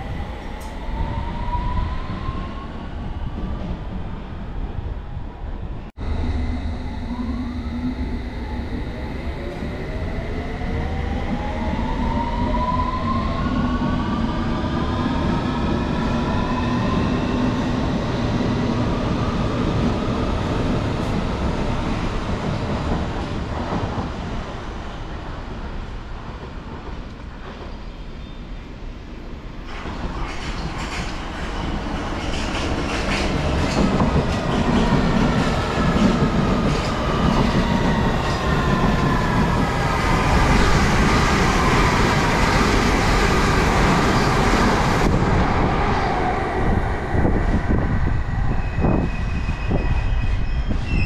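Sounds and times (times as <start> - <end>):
rail noise: 0.0 - 51.0.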